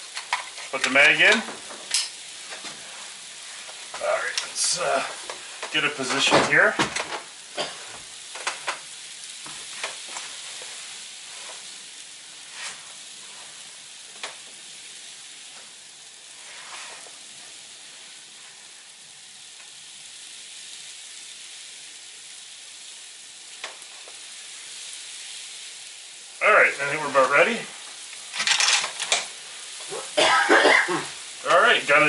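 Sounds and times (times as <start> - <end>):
freezing rain and snow hissing: 0.0 - 32.0.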